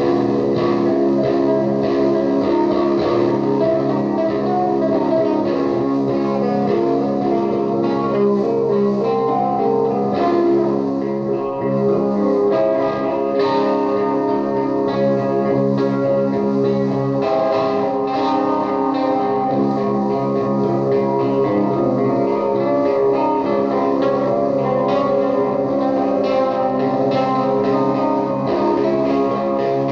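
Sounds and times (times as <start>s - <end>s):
psychedelic electric guitar: 0.0s - 29.9s.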